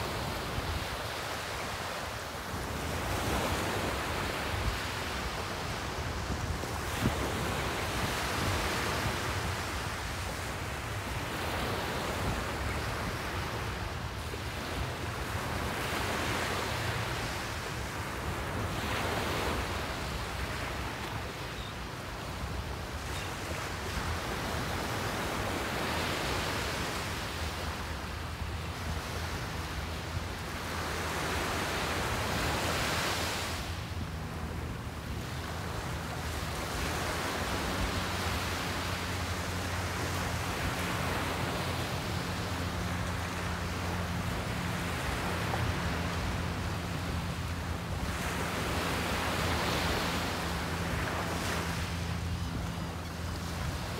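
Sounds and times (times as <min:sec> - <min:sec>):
waves washing up a beach: 0:00.0 - 0:53.9.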